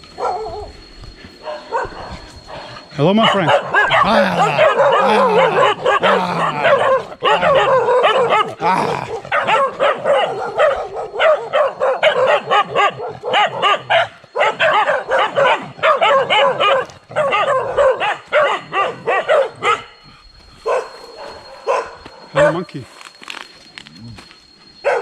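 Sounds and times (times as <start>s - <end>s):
dogs barking and yapping: 0.0s - 22.6s, 24.4s - 25.0s.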